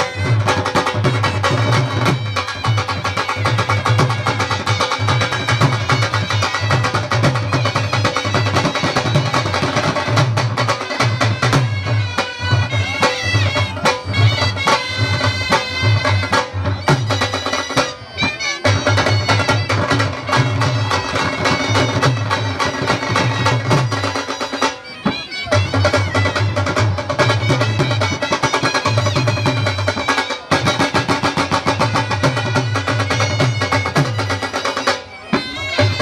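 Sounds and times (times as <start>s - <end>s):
barrel drum fast rhythm: 0.0s - 36.0s
wind instrument high melody: 0.0s - 36.0s.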